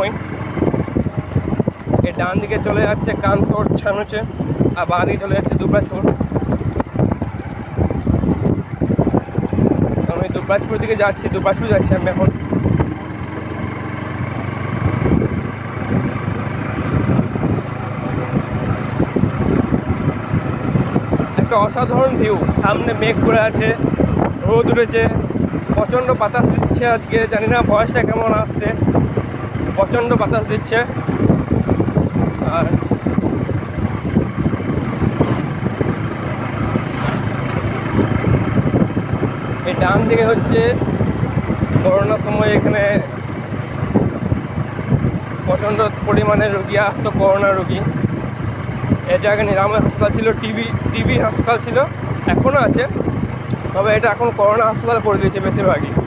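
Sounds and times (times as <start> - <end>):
motorcycle engine running: 0.0 - 56.0
road noise: 0.0 - 56.0
wind rumbling on microphone: 0.0 - 56.0.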